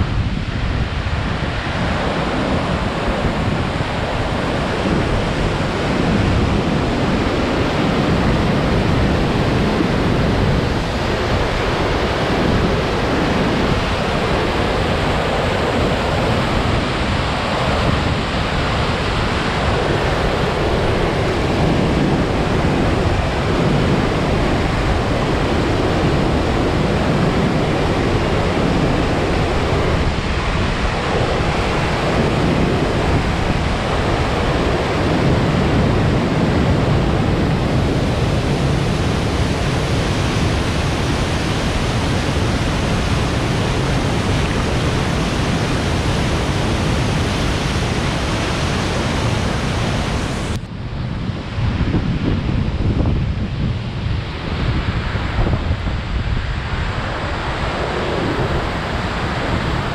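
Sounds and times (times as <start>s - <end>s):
waterfall and rapids rushing: 0.0s - 50.8s, 54.1s - 59.9s.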